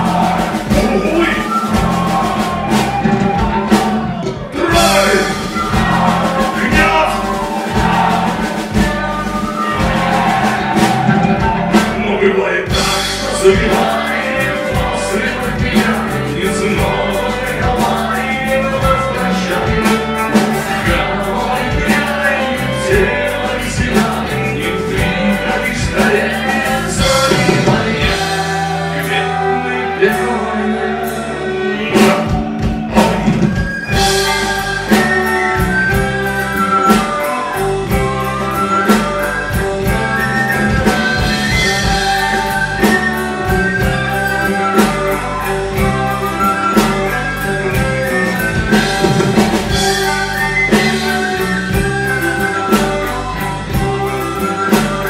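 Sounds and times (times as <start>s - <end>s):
live folk-rock band: 0.0s - 55.0s
person singing: 0.0s - 55.0s.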